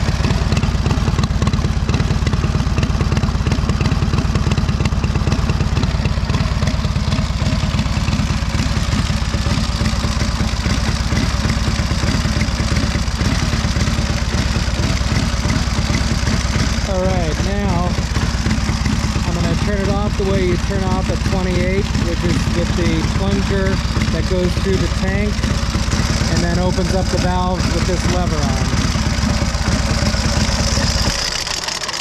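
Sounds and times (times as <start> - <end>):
motorcycle engine idling: 0.0 - 32.0.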